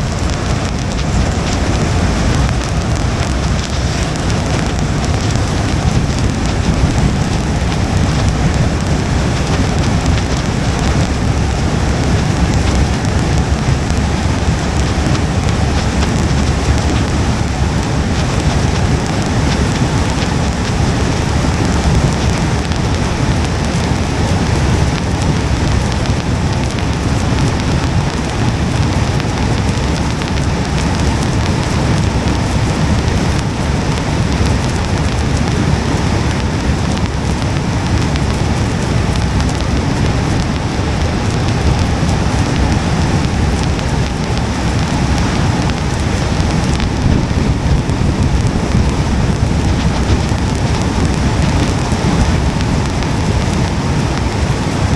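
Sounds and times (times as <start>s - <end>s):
rain on car windshield: 0.0s - 54.9s
road and engine rumble: 0.0s - 54.9s.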